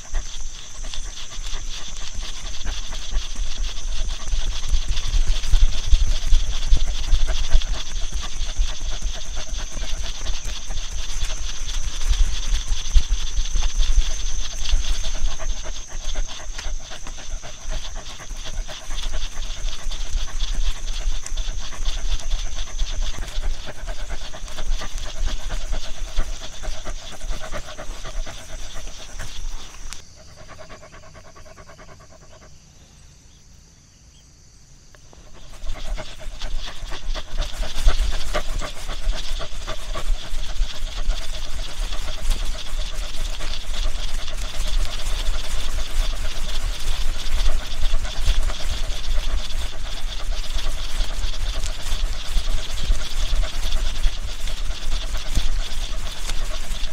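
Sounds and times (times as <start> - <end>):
dog panting rapidly: 0.0 - 32.7, 35.1 - 56.9.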